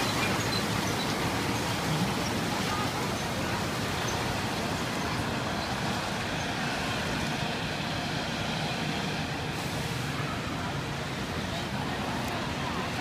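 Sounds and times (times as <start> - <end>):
fire truck engine rumbling: 0.0 - 13.0.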